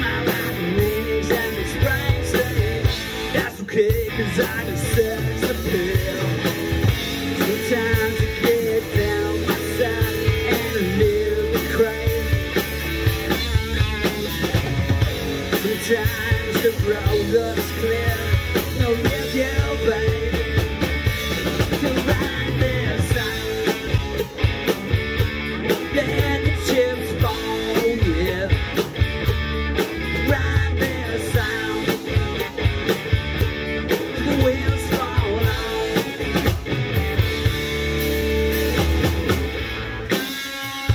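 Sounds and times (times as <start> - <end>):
bass guitar: 0.0 - 40.9
drum beats: 0.0 - 40.9
electric guitar: 0.0 - 40.9.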